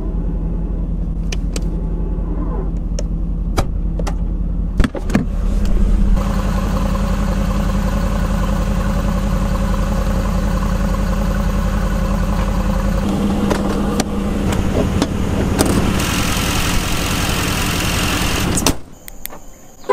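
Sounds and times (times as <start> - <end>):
car engine idling: 0.0 - 18.7.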